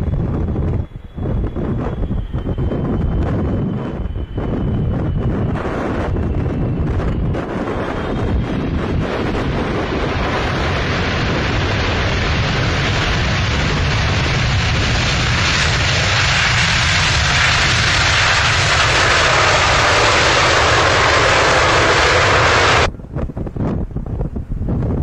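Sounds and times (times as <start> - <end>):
jet engines running loud: 0.0 - 25.0.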